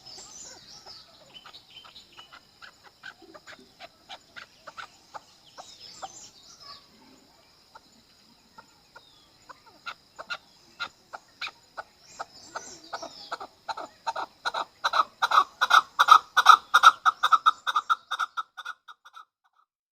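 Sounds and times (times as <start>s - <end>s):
partridge clucking call: 0.0s - 6.2s, 8.6s - 19.6s.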